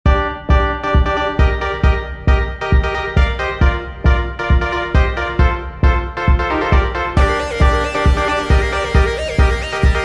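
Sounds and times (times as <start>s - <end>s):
background music with low beat: 0.1s - 10.0s.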